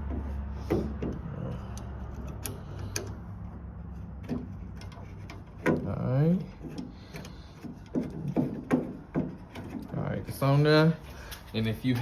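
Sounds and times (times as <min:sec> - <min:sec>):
metal hardware clicking: 0:00.0 - 0:10.0.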